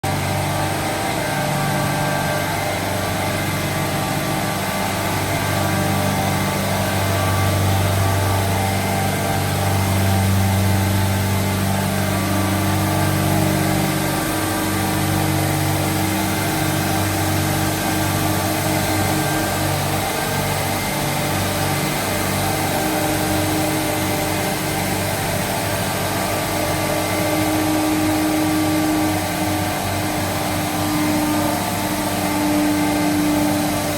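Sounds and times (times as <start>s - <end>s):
refrigeration unit humming: 0.0s - 33.9s.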